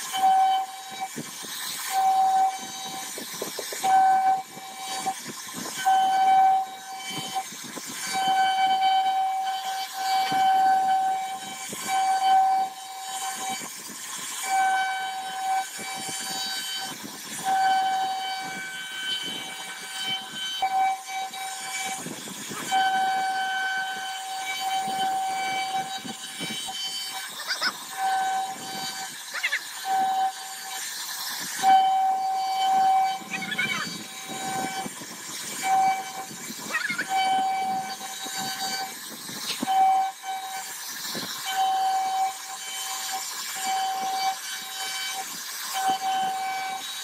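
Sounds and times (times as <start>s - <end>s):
router spindle whine: 0.0s - 47.0s.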